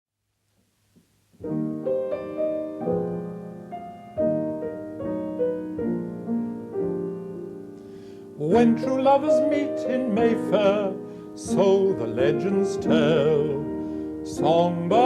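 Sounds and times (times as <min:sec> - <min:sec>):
piano playing sustained chords: 0:01.4 - 0:15.0.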